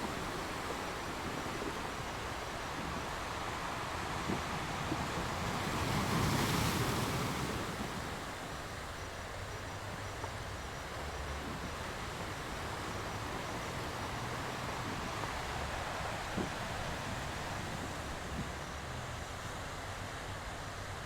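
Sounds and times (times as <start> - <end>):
sea waves washing in: 0.0 - 21.0.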